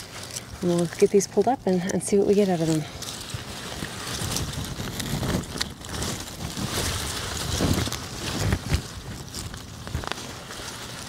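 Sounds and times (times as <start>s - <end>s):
plant foliage rustling and crackling: 0.0s - 11.0s.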